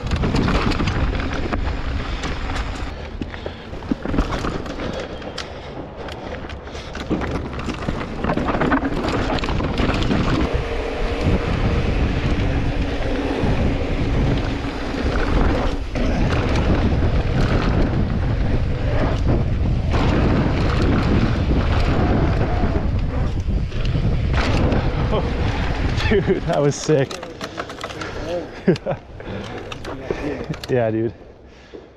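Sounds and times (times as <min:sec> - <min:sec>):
wind buffeting microphone: 0:00.0 - 0:27.4
bike knocks and rattles: 0:00.0 - 0:30.9
tyres rolling on dirt trail: 0:00.0 - 0:31.9.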